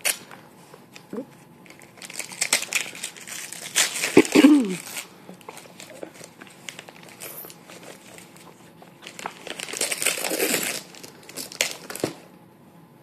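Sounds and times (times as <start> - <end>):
wrapping paper tearing and crinkling: 0.0 - 0.4, 1.6 - 12.2.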